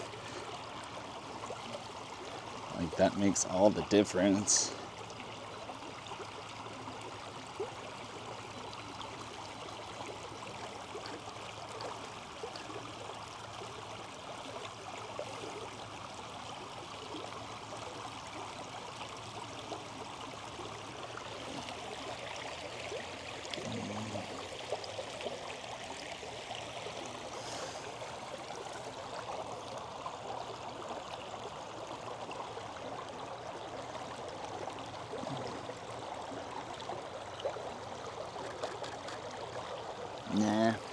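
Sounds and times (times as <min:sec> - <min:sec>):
creek water flowing over stones: 0:00.0 - 0:40.9.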